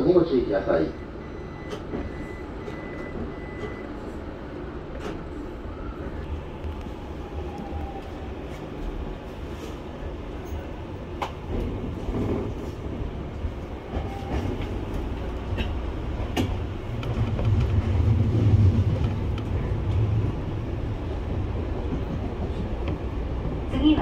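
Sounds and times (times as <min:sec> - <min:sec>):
train running gear rumble: 0:01.2 - 0:24.0.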